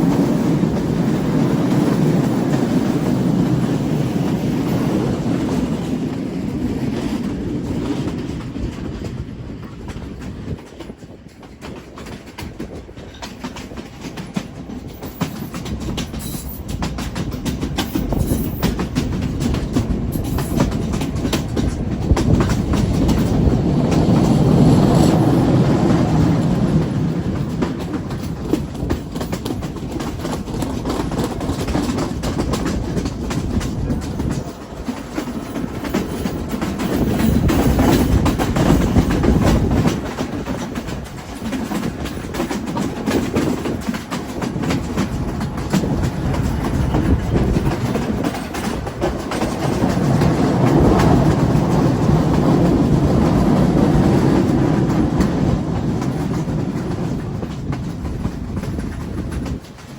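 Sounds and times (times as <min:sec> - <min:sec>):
train carriages rumbling: 0:00.0 - 0:59.9
wheels clacking over rail joints: 0:00.0 - 0:59.9.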